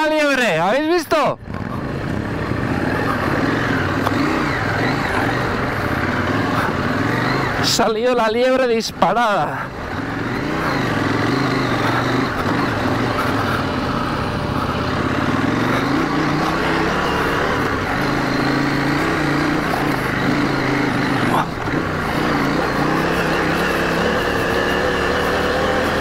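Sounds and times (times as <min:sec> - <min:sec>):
motorcycle engine revving: 0:01.4 - 0:26.0.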